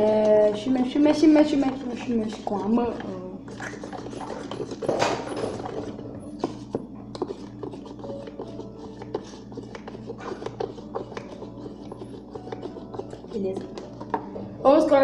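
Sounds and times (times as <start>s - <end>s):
stirring scraping and clicking in cup: 0.0s - 14.3s
steady low hum: 0.0s - 15.0s.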